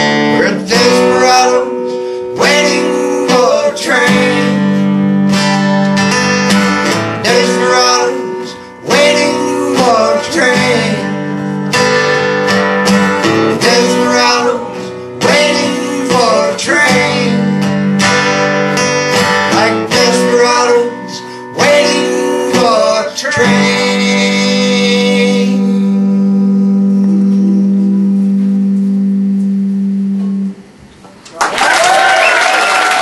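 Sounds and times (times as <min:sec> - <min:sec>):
acoustic guitar strummed and picked: 0:00.0 - 0:30.7.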